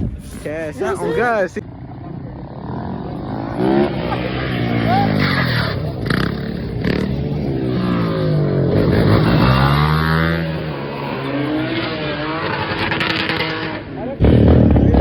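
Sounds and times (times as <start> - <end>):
vehicle engine revving: 2.5 - 15.0.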